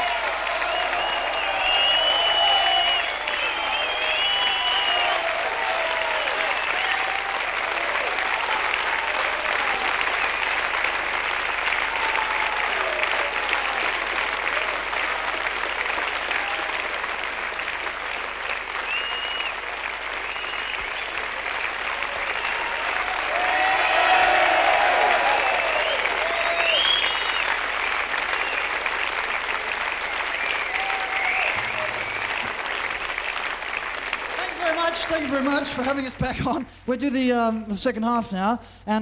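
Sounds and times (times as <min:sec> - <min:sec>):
audience applauding: 0:00.0 - 0:37.3.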